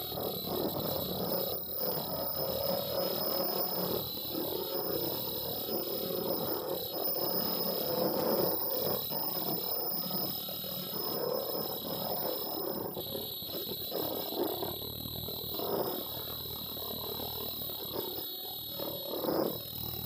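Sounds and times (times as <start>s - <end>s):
high-pitched machine whine: 0.0s - 20.0s.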